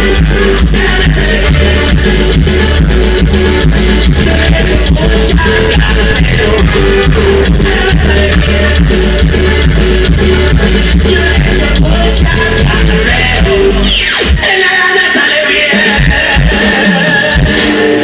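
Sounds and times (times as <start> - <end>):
loud music with heavy bass: 0.0 - 18.0.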